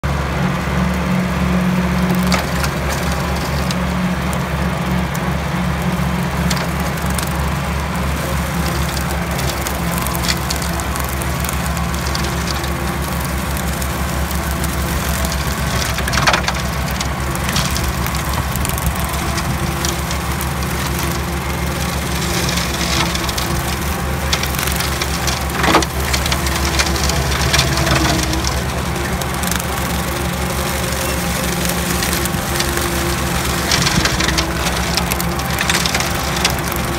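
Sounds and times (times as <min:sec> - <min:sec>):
tractor engine running: 0:00.0 - 0:36.9
blades cracking on woody debris: 0:00.8 - 0:36.9
mower blades chopping grass: 0:00.9 - 0:36.9.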